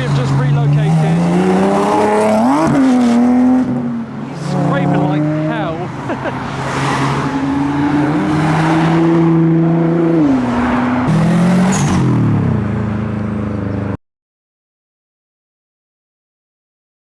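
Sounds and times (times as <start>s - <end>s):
cars accelerating past: 0.0s - 14.0s.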